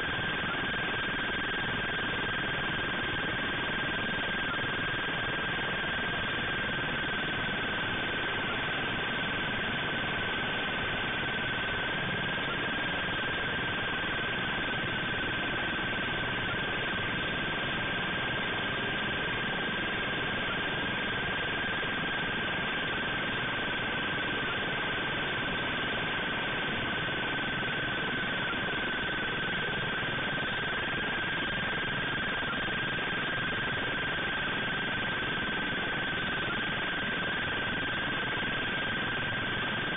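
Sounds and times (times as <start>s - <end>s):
steady high-pitched tone: 0.0s - 39.9s.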